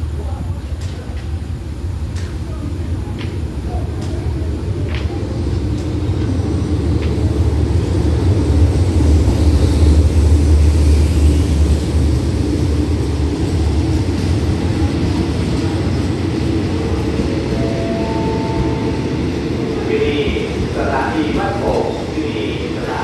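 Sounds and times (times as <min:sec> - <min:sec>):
diesel locomotive engine rumble: 0:00.0 - 0:23.0.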